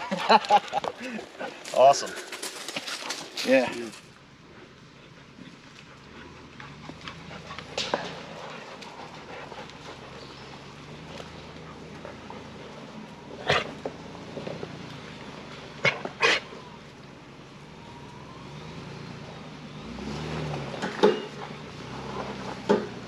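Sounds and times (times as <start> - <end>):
off-road engine running: 0.0 - 23.0.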